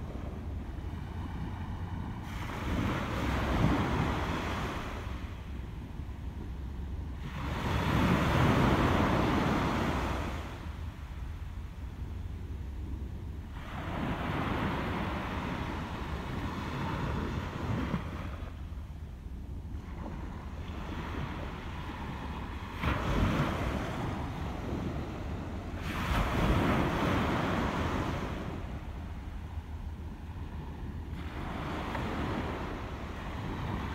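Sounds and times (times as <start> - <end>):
wind rumble on microphone: 0.0 - 33.9.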